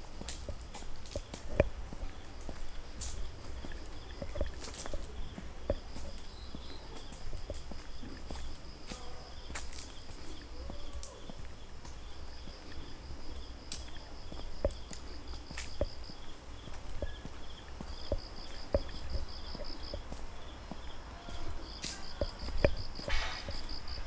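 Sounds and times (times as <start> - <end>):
footsteps on trail: 0.0 - 24.0
insects chirping in trills: 0.0 - 24.0.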